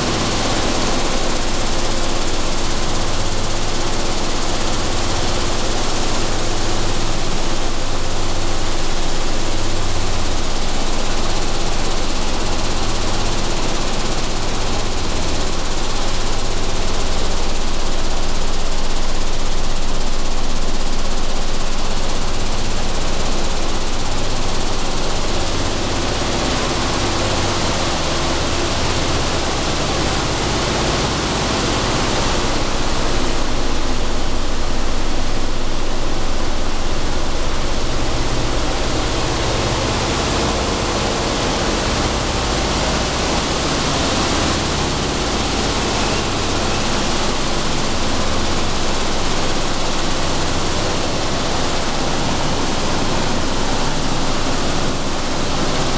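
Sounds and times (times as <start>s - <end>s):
seed processing machinery running: 0.0s - 55.9s.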